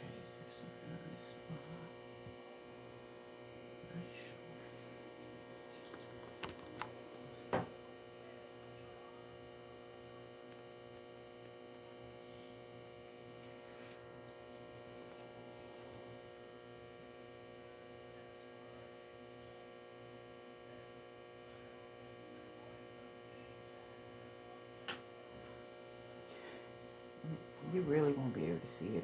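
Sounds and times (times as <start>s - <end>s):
faint electrical hum: 0.0s - 29.0s.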